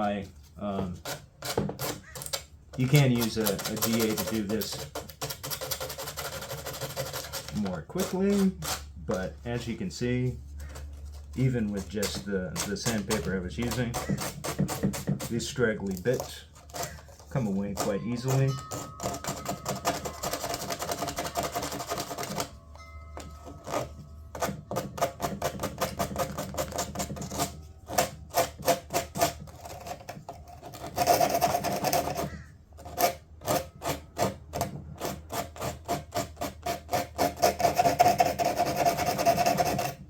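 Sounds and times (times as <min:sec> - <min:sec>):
sandpaper scrubbing fiberglass: 0:02.8 - 0:18.6, 0:23.7 - 0:40.0.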